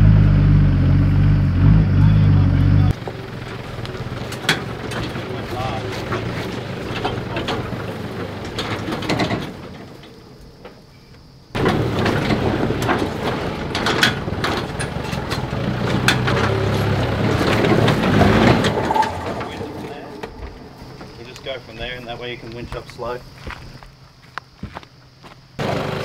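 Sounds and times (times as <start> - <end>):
engine labouring: 0.0 - 22.9, 25.6 - 26.0.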